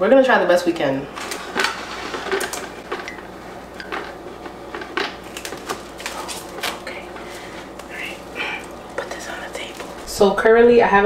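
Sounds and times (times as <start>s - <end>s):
plastic wrap crinkling: 1.1s - 10.1s.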